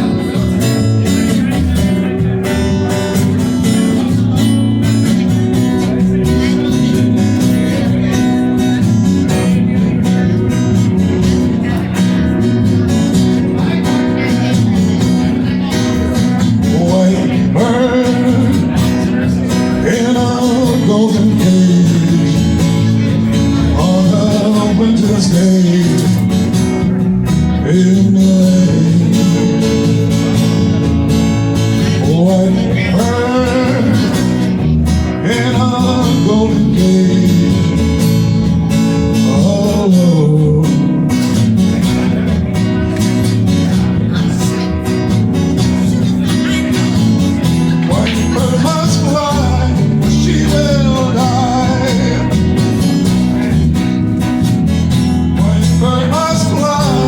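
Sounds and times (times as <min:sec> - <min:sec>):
acoustic guitar: 0:00.0 - 0:57.0
bass guitar: 0:00.0 - 0:57.0
person singing wordless lines: 0:00.0 - 0:57.0.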